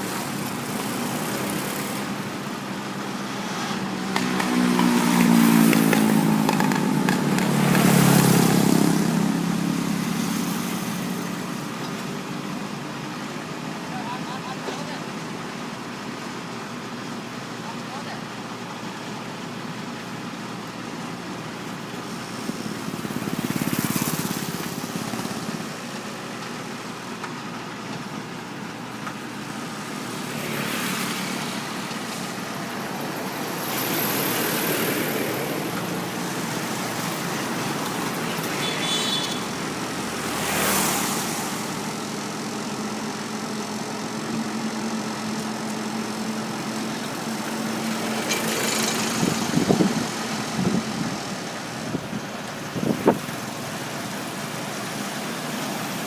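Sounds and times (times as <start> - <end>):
passing traffic: 0.0 - 56.0.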